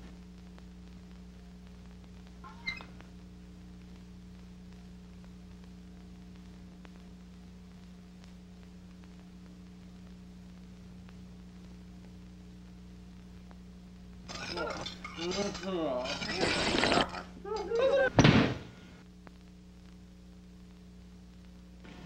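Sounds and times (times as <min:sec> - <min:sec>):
low electrical hum with hiss: 0:00.0 - 0:22.0.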